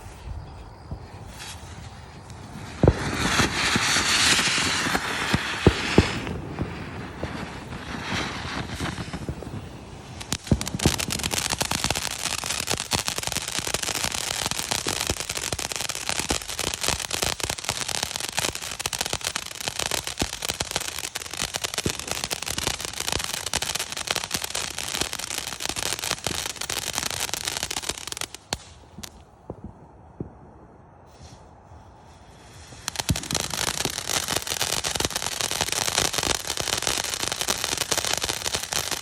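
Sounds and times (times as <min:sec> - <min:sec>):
firework crackling and hissing: 0:00.0 - 0:29.8, 0:30.9 - 0:39.0.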